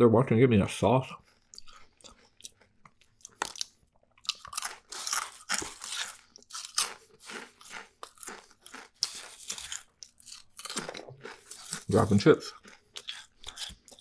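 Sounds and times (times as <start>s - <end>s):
potato chip crunching: 1.6s - 14.0s.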